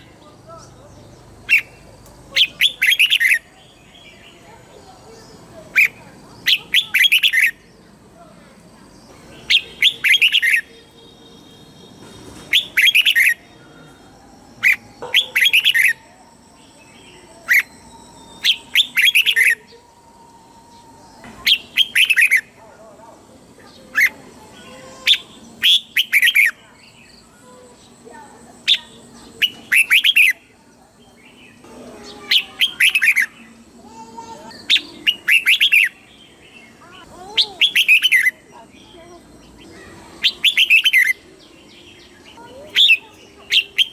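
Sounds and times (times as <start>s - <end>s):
bird singing short rapid phrases: 0.0s - 13.6s, 14.5s - 19.7s, 21.2s - 22.6s, 23.7s - 43.9s.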